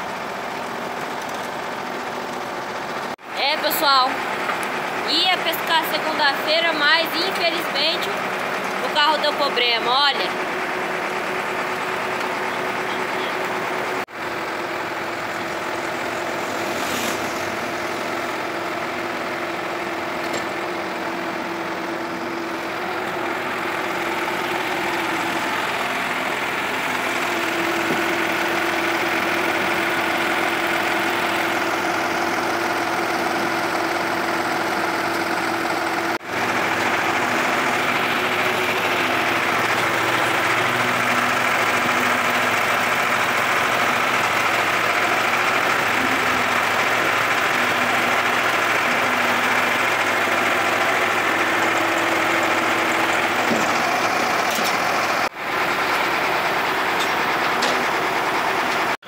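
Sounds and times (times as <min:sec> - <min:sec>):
tow truck engine running: 0:00.0 - 0:59.0.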